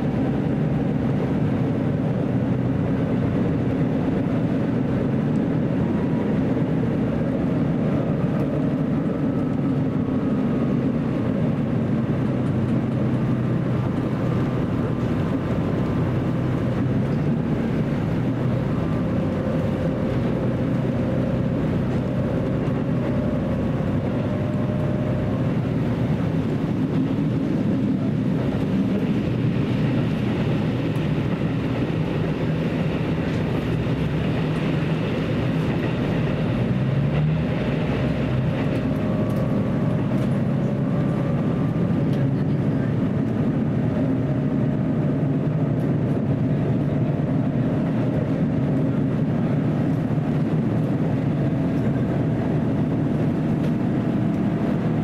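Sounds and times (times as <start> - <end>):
diesel engine drone: 0.0 - 55.0
wheel and rail noise: 0.0 - 55.0.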